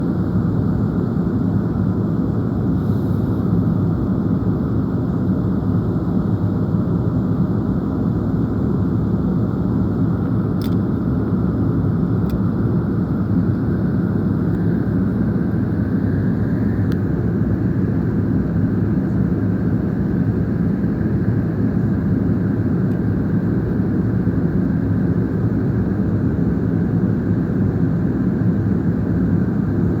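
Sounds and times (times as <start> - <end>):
airliner engine and airflow rush: 0.0 - 30.0.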